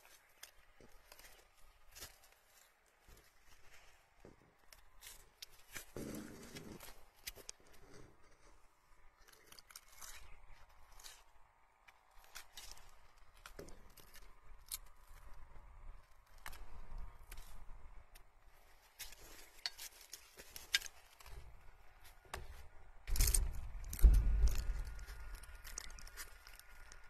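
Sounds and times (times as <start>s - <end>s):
leaves rustling: 0.0s - 8.4s, 9.1s - 17.8s, 18.4s - 27.0s.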